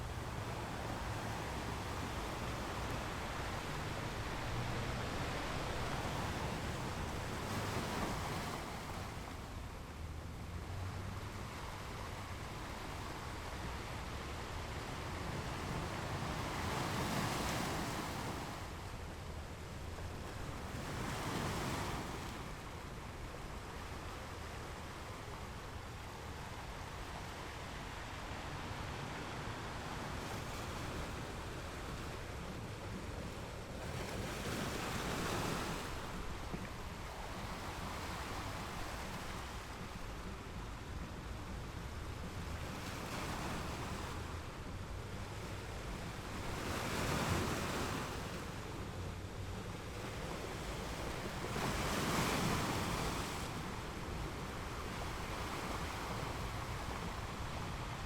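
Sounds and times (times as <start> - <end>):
ocean waves breaking on rocks: 0.2 - 9.4, 11.0 - 19.0, 20.1 - 22.6, 25.9 - 58.0.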